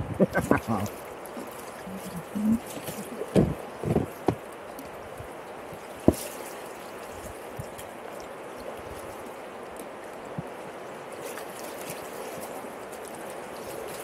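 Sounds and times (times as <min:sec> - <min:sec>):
paddle splash: 0:00.0 - 0:14.0
river rapids rushing: 0:00.0 - 0:14.0.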